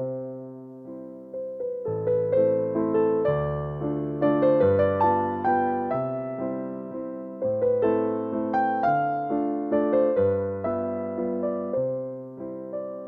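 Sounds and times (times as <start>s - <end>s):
piano notes and chords: 0.0s - 13.0s.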